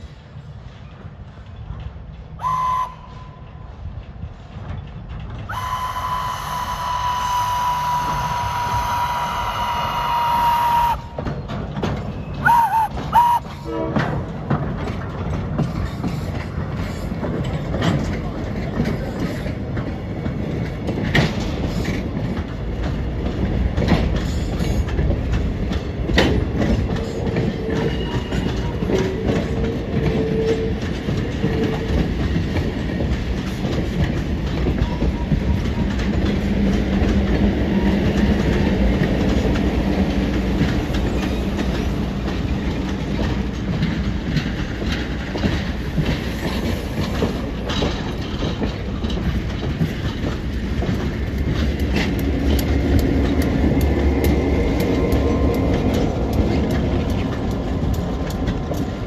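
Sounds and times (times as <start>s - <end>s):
train rumble: 0.0s - 59.0s
train wheels clicking over rail joints: 0.0s - 59.0s.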